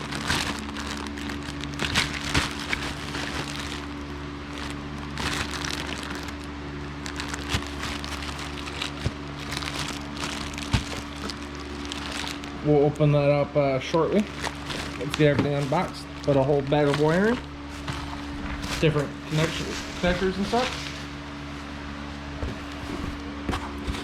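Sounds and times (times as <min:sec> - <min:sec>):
plastic bags crinkling: 0:00.0 - 0:12.6, 0:14.1 - 0:24.0
steady low hum: 0:00.0 - 0:24.0.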